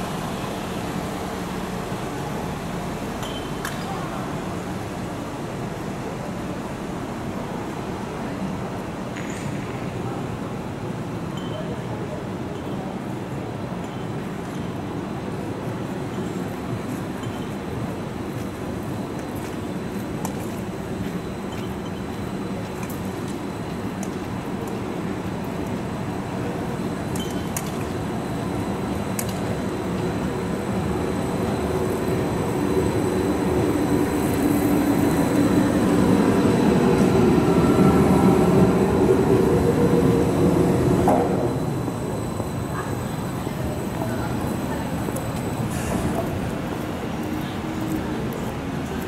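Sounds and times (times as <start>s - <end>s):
tram passing: 0.0s - 49.0s.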